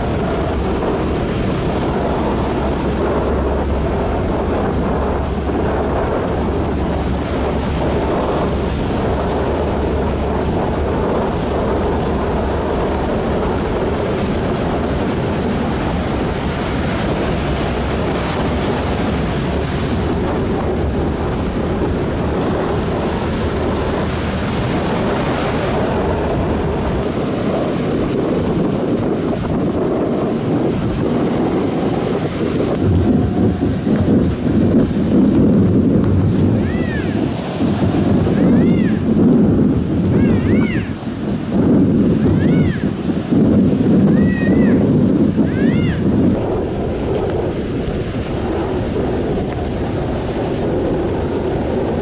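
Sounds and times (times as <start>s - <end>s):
surf breaking over seawall: 0.0s - 52.0s
wind buffeting microphone: 0.0s - 52.0s.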